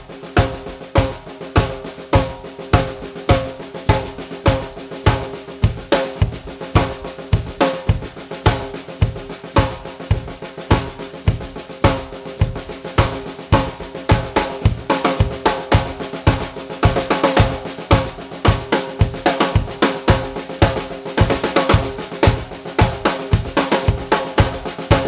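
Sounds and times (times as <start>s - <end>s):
kick drum thumps: 0.0s - 25.0s
snare drum beat: 0.0s - 25.0s.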